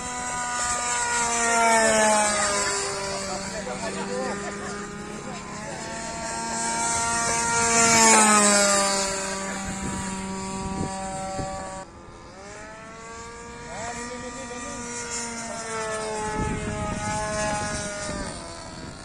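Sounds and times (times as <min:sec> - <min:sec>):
model airplane propeller droning: 0:00.0 - 0:19.0.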